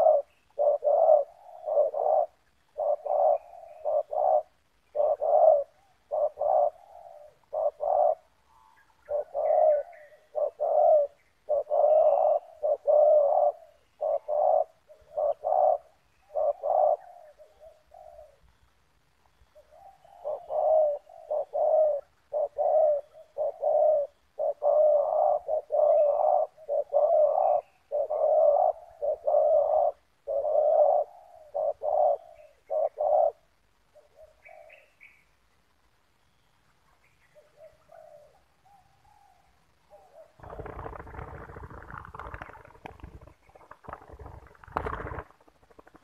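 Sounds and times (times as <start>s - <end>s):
dove cooing: 0.0s - 18.4s, 19.5s - 35.2s, 37.3s - 46.0s.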